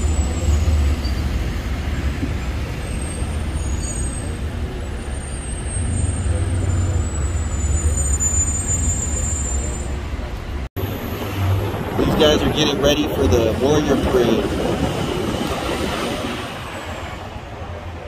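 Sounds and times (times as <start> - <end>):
road noise inside car: 0.0 - 18.0.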